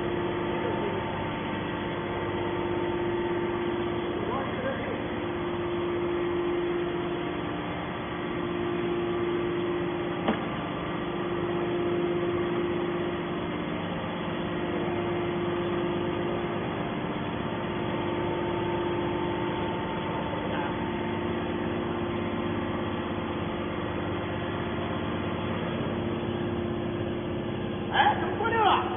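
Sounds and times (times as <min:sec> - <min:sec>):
hydraulic baler humming: 0:00.0 - 0:28.9.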